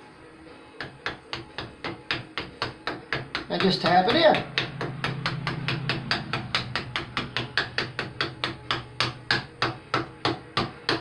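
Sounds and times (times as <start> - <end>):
rubber mallet tapping: 0.8 - 11.0.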